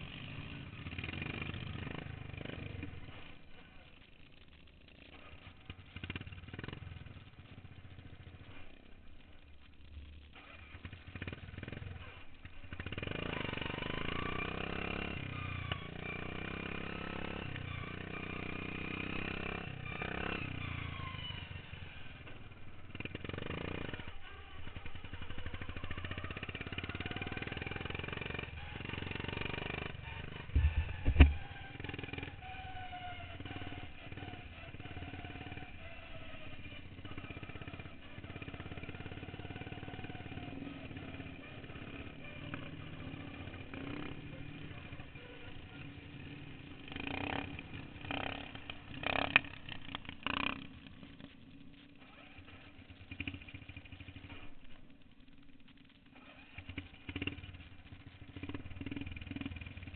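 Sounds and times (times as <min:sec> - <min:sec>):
lawn mower engines revving: 0:00.0 - 0:59.9.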